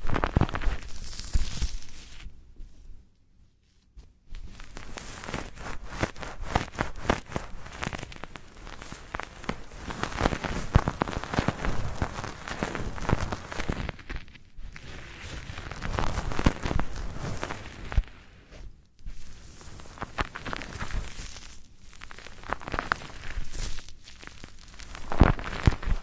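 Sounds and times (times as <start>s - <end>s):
foam bubbles crackling and squishing: 0.0s - 2.3s, 4.3s - 26.0s.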